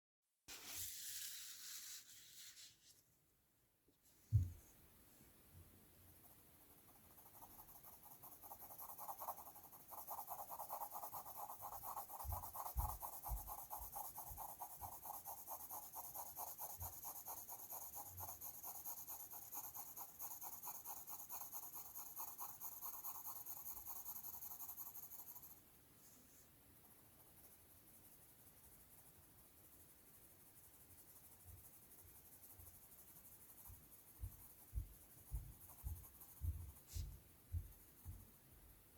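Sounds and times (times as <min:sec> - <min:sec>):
pencil rubbing on paper: 0:00.5 - 0:02.8, 0:06.2 - 0:25.6, 0:27.2 - 0:38.3.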